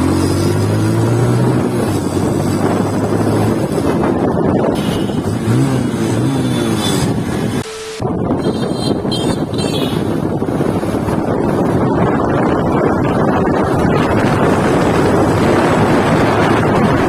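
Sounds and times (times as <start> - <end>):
motorcycle engine: 0.0 - 17.0
wind rushing over microphone: 0.0 - 17.0.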